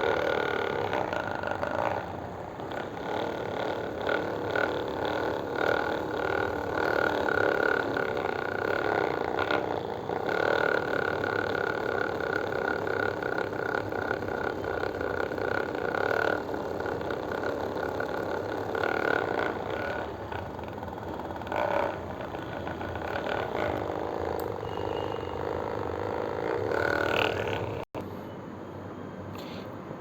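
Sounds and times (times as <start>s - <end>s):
machine hum: 0.0s - 28.4s.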